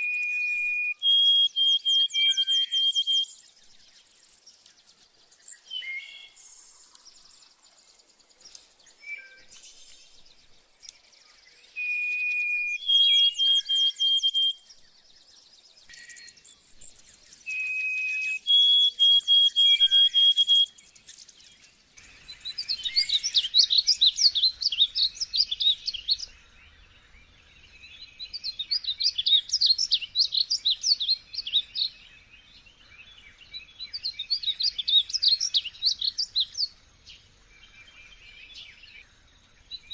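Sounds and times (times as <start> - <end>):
songbirds whistling phrases: 0.0 - 3.8, 5.5 - 6.6, 9.0 - 9.6, 10.8 - 39.9
high jumbled bird twittering: 0.0 - 39.9.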